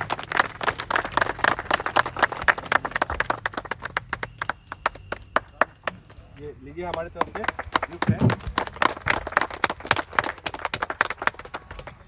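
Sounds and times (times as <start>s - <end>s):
small group clapping: 0.0s - 12.0s.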